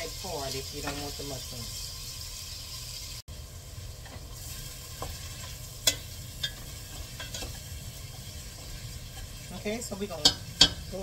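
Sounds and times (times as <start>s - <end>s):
mushrooms sizzling in butter: 0.0s - 11.0s.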